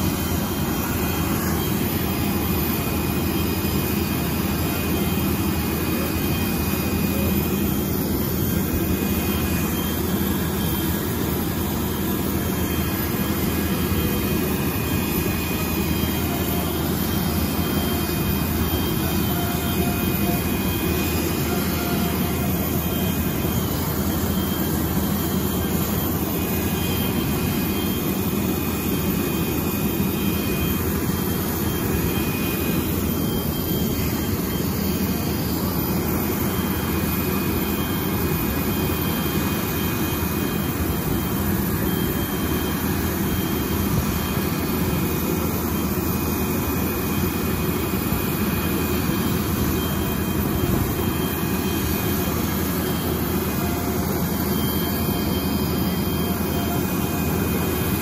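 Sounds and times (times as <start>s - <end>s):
faint high whine: 0.0s - 58.0s
ground power unit drone: 0.0s - 58.0s.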